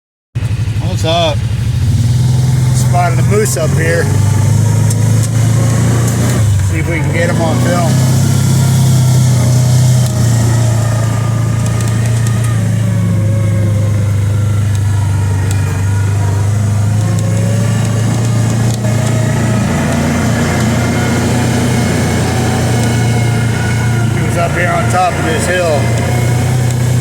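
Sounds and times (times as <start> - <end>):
engine running at low revs: 0.4 - 27.0.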